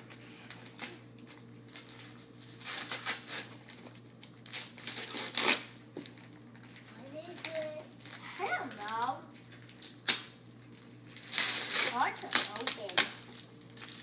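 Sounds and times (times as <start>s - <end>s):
wrapping paper tearing and crinkling: 0.0s - 14.0s.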